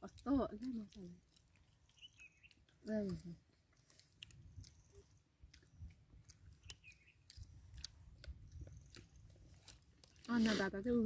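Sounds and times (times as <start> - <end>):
person chewing crisp snack: 0.0 - 10.9.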